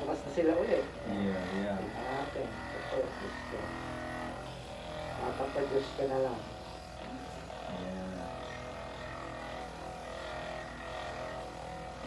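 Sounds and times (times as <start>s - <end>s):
massage gun motor whine: 0.0s - 12.0s.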